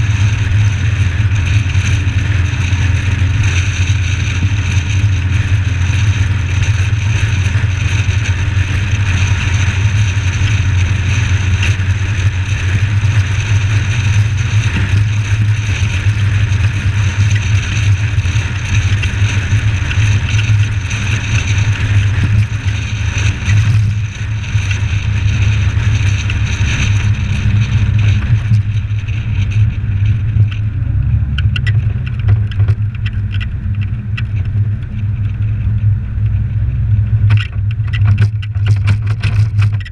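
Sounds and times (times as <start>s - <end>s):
car engine drone while driving: 0.0s - 39.9s
wind and road noise hiss: 0.0s - 39.9s.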